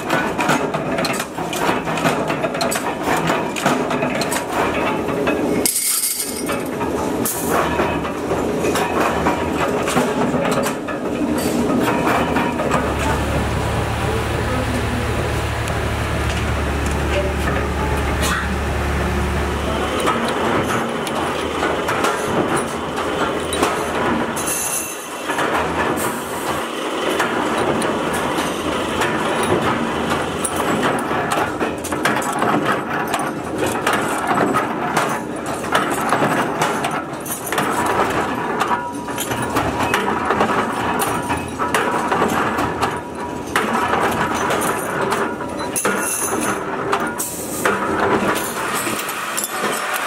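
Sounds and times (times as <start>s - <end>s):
workshop machinery clattering: 0.0s - 50.0s.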